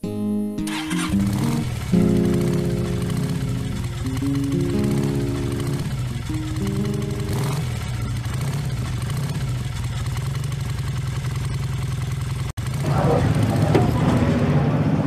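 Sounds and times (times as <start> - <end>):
motorcycle engine running: 0.7 - 15.0.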